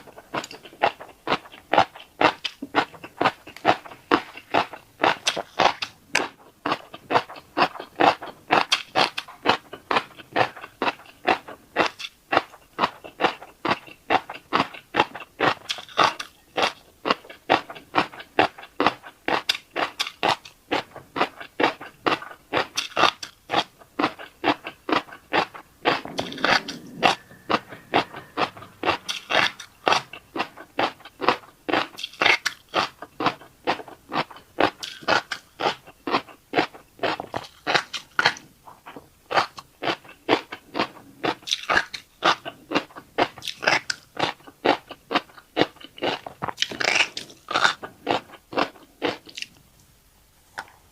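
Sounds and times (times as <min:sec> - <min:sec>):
chewing crunchy fish roe: 0:00.0 - 0:49.7.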